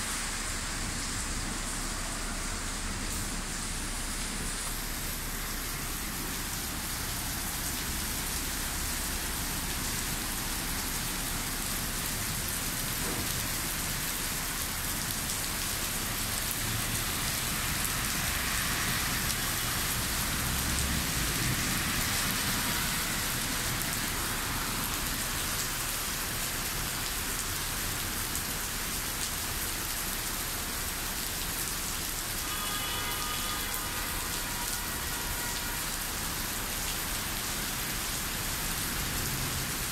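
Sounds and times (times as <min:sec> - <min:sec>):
heavy rain splashing on street: 0:00.0 - 0:39.9.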